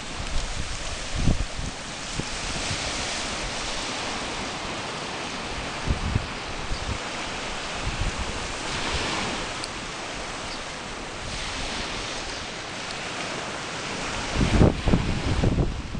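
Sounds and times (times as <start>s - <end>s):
small waves washing onto shore: 0.0s - 15.9s
wind buffeting microphone: 0.0s - 15.9s.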